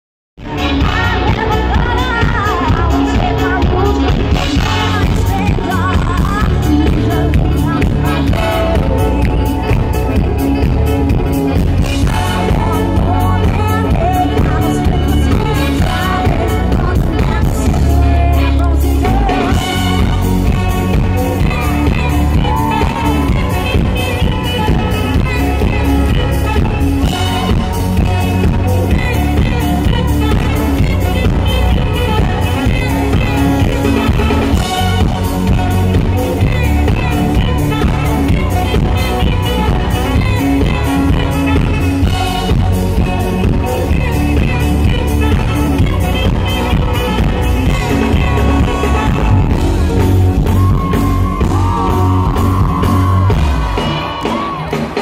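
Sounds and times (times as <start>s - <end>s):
woman singing: 0.4s - 49.6s
horns: 0.4s - 55.0s
live band dance music: 0.4s - 55.0s.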